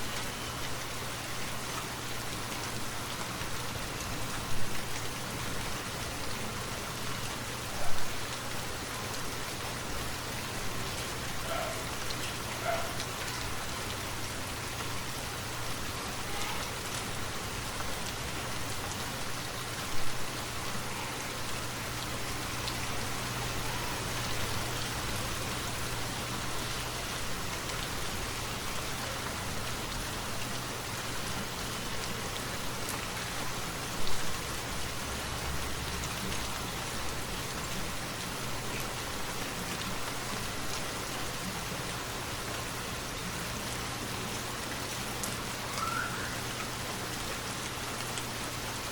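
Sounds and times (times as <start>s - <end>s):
rain falling on a forest: 0.0s - 48.9s.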